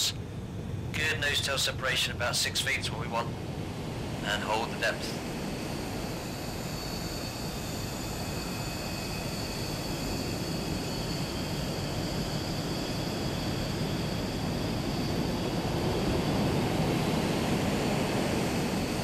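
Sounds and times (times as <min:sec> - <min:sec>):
faint high whine: 0:00.0 - 0:19.0
jet engine: 0:00.0 - 0:19.0.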